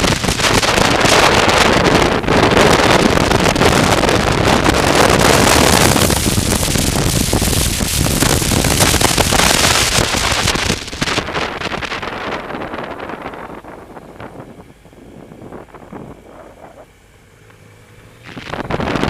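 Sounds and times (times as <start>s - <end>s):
wind buffeting microphone: 0.0s - 17.2s, 18.2s - 19.0s
road noise: 0.0s - 19.0s.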